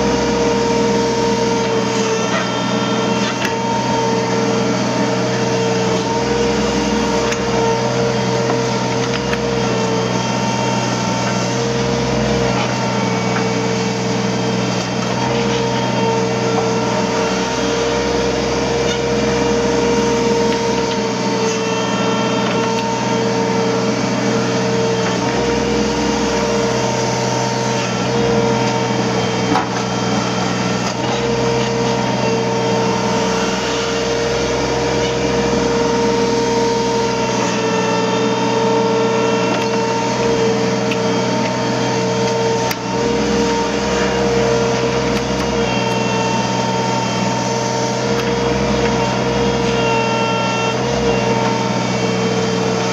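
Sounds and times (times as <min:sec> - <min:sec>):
excavator engine with high whine: 0:00.0 - 0:52.9.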